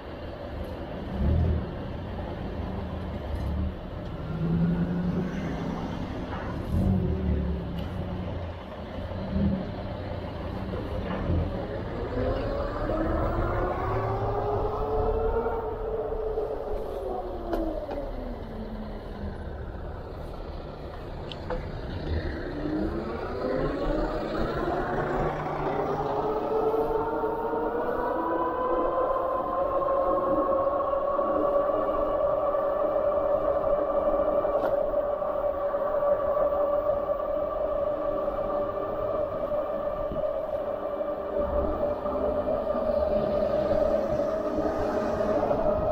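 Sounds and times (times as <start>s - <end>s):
passing cars rumbling: 0.0s - 45.9s
wind and tyre noise: 0.0s - 45.9s.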